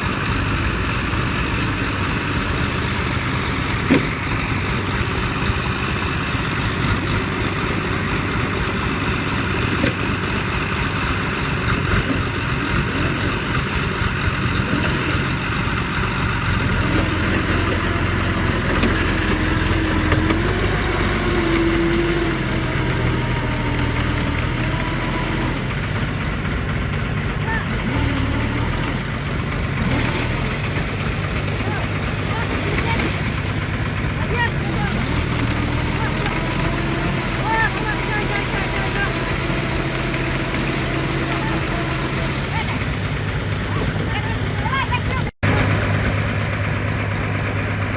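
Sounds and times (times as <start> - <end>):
heavy vehicle engine running: 0.0 - 47.9.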